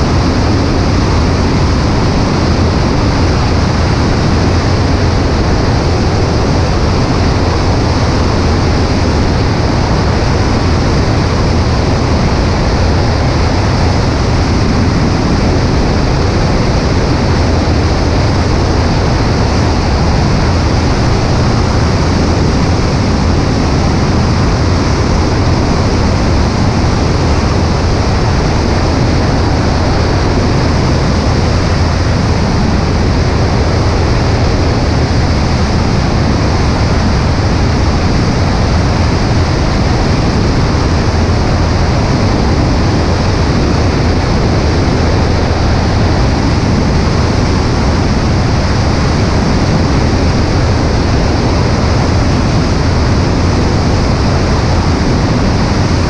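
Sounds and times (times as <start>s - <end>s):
airplane engine drone: 0.0s - 56.0s
wind rushing: 0.0s - 56.0s.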